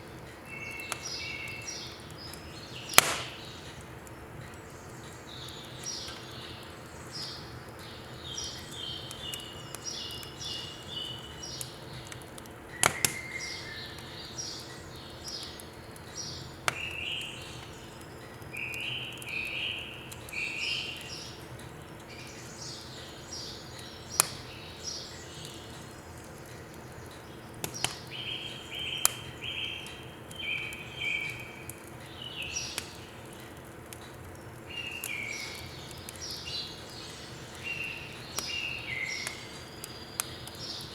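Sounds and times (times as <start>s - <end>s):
firewood crackling in stove: 0.0s - 40.9s
birds chirping: 0.2s - 33.6s, 34.3s - 40.9s.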